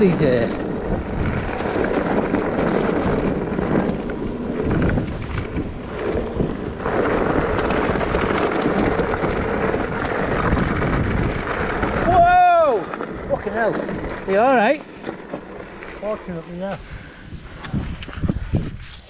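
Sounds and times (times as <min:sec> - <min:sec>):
bike rattling: 0:00.0 - 0:19.0
tyres crunching on gravel: 0:00.0 - 0:19.0
wind buffeting microphone: 0:00.0 - 0:19.0.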